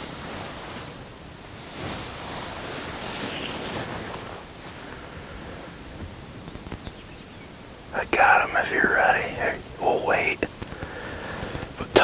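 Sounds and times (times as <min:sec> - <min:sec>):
wind gusting over microphone: 0:00.0 - 0:12.0.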